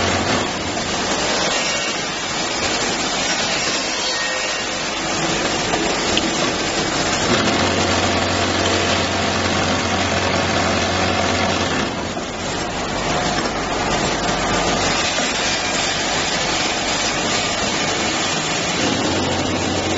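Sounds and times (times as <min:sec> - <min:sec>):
conveyor and filler machinery din: 0:00.0 - 0:19.9.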